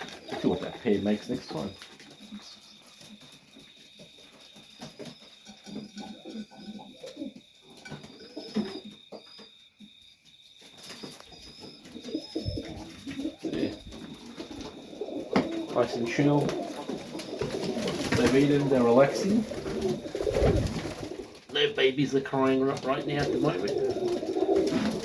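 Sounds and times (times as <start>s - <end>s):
pigeons cooing: 0.0s - 3.4s, 4.8s - 9.0s, 11.2s - 25.0s.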